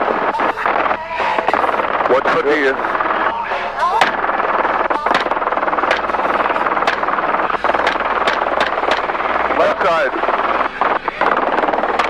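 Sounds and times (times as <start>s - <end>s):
gunshots: 0.0s - 12.0s
helicopter engine and rotor: 0.0s - 12.0s.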